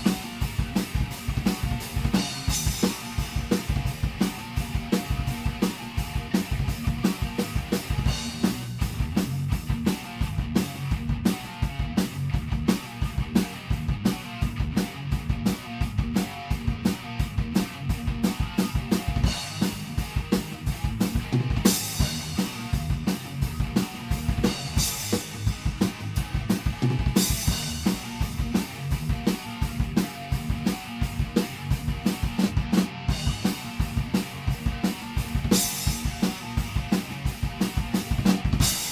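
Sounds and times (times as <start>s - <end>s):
bass drum and snare hits: 0.0s - 38.9s
rock music: 0.0s - 38.9s.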